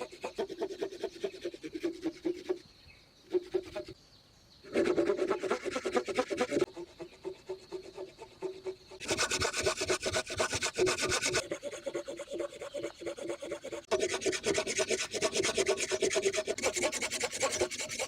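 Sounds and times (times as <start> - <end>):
hand tool rasping wood: 0.0 - 2.6, 4.7 - 18.0.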